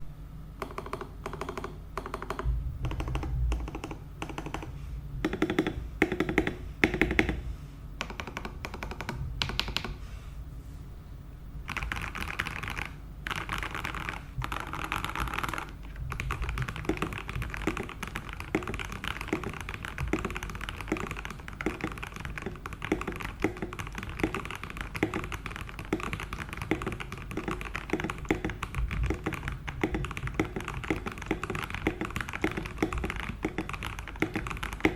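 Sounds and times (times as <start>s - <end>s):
mechanical keyboard typing: 0.6s - 4.7s, 8.0s - 9.9s, 11.7s - 34.9s.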